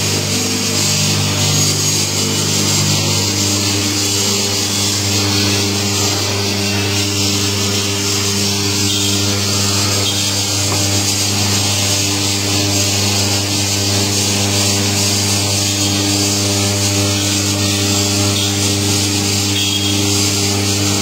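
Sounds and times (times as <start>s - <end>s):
electric motor humming: 0.0s - 21.0s.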